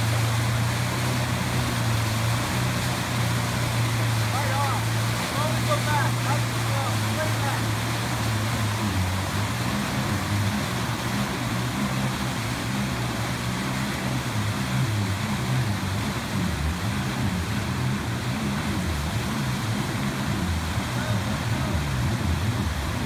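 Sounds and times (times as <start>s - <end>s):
watercraft engine running: 0.0s - 23.0s
whitewater rushing: 0.0s - 23.0s.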